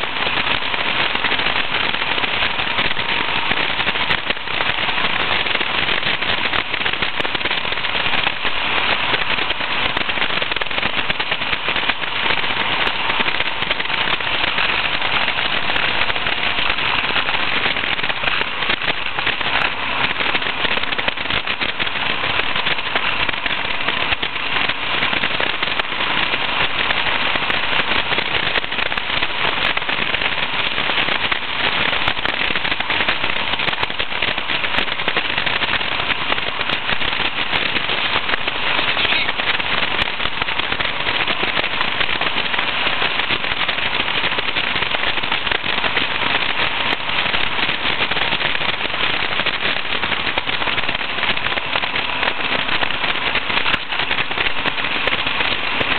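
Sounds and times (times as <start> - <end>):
wind and road noise: 0.0 - 55.9.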